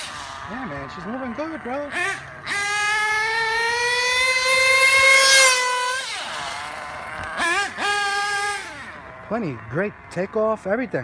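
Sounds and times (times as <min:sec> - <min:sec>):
model car engine revving: 0:00.0 - 0:11.0.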